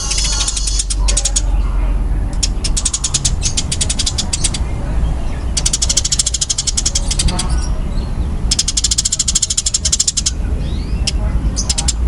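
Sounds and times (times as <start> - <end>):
sparrow rattling chatter: 0.0 - 12.0.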